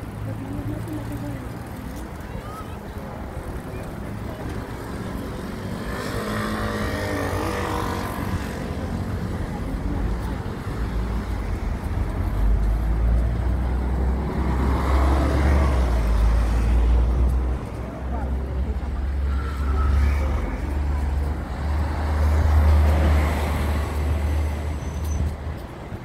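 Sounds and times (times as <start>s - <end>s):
low steady street rumble: 0.0s - 26.0s.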